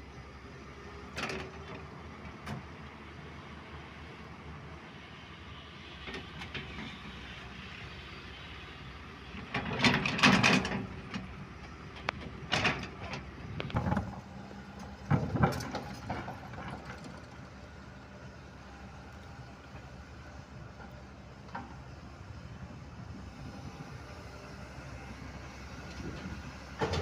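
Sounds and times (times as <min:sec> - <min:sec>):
excavator engine running: 0:00.0 - 0:27.0.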